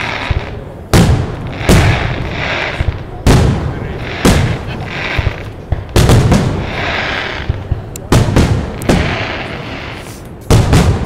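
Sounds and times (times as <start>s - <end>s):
firework shells booming: 0.0s - 11.0s.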